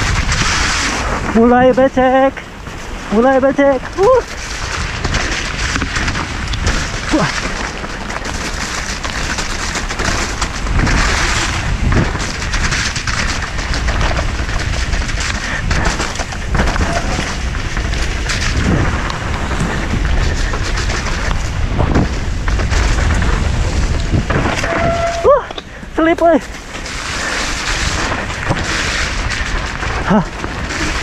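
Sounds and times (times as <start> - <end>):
bike knocking and rattling: 0.0 - 31.0
bike tyre noise: 0.0 - 31.0
wind buffeting microphone: 0.0 - 31.0.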